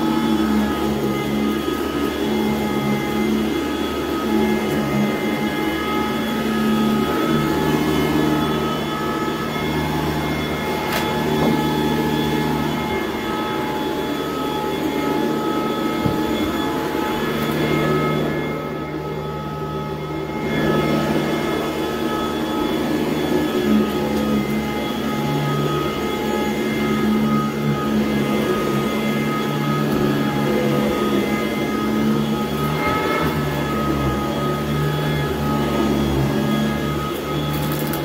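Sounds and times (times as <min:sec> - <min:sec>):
upright vacuum cleaner running: 0:00.0 - 0:38.0.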